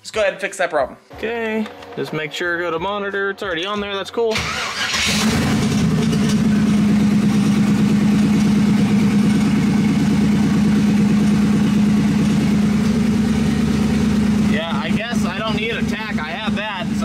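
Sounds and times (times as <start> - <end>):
car engine idling: 1.1 - 17.0.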